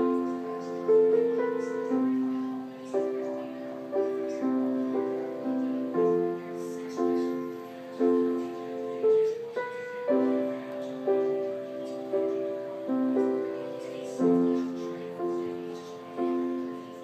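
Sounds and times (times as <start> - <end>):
grand piano chords: 0.0 - 17.0.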